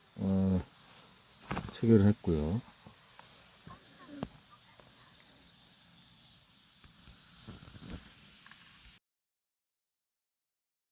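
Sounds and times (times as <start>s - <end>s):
faint high insect trill: 0.0s - 9.0s.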